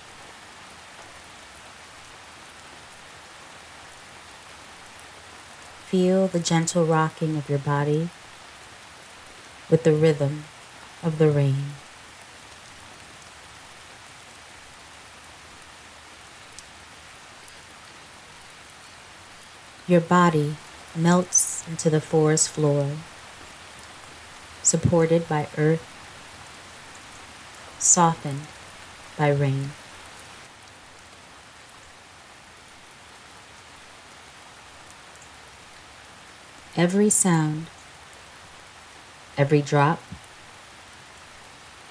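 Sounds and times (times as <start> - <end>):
rain falling in forest: 0.0 - 41.9.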